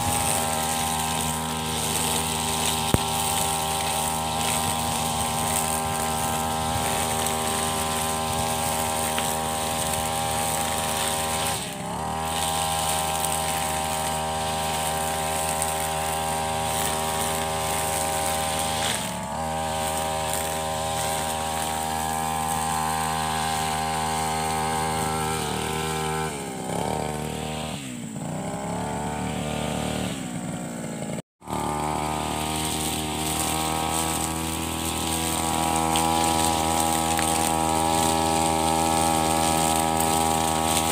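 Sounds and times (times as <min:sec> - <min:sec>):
brush cutter engine: 0:00.0 - 0:40.9.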